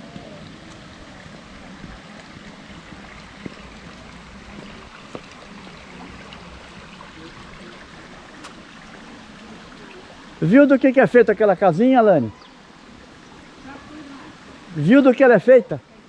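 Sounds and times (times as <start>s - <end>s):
stream running water: 0.0s - 16.0s.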